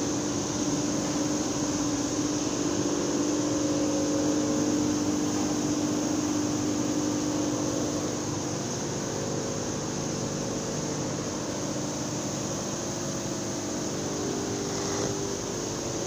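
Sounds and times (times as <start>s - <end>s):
mill machinery humming: 0.0s - 16.0s.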